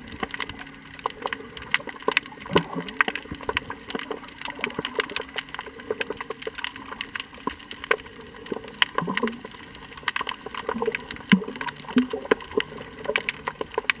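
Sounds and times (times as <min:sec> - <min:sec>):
low bubbling gurgles: 0:00.0 - 0:14.0
underwater crackle of clicks: 0:00.0 - 0:14.0.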